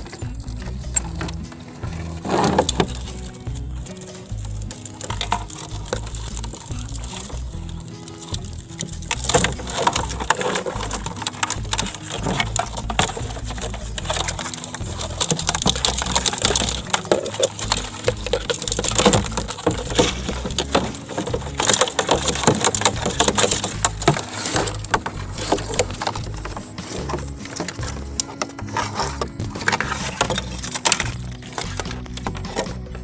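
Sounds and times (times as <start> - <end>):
wire crab trap clattering: 0.0 - 33.0.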